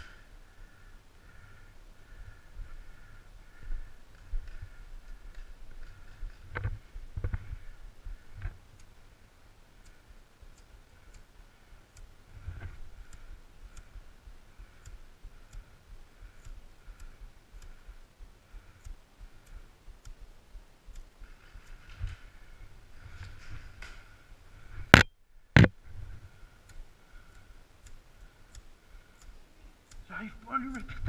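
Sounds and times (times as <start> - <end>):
faint regular clicks: 0.0 - 31.0.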